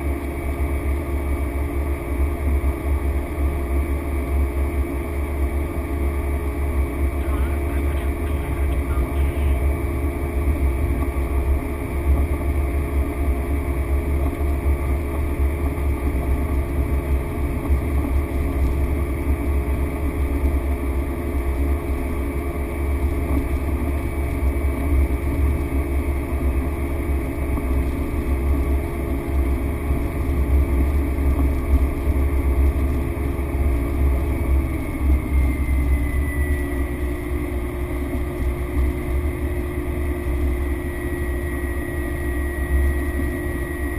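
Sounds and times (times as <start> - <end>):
turboprop engine droning: 0.0 - 43.9.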